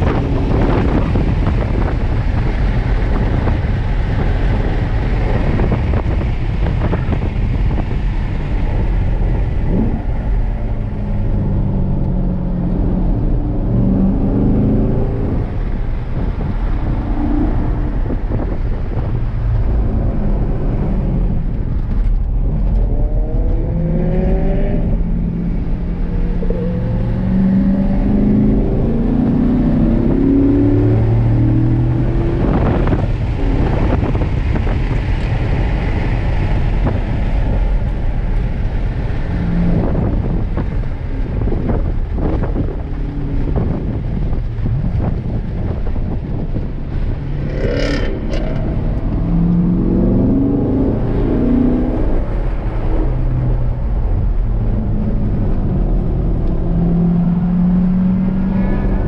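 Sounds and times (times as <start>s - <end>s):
car engine revving through gears: 0.0s - 59.0s
road noise rumble: 0.0s - 59.0s.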